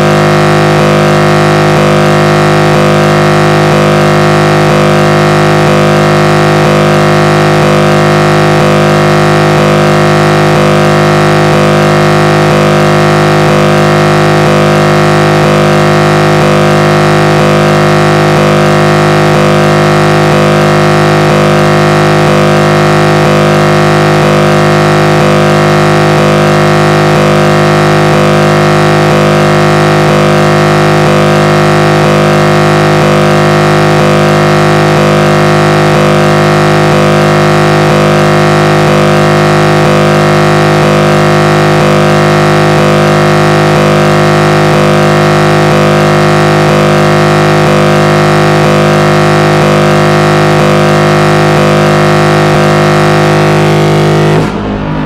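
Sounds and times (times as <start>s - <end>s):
ship air horn blast: 0.0s - 55.0s.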